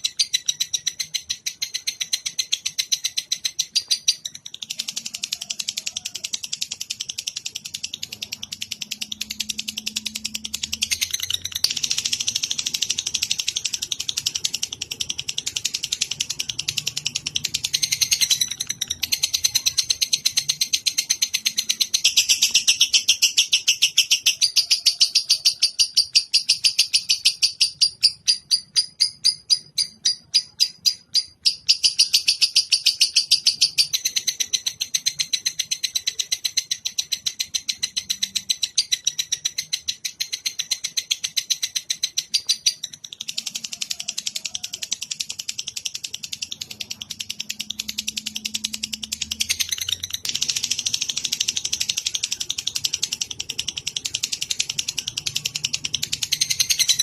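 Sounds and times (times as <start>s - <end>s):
songbird chattering chirps: 0.0s - 57.0s.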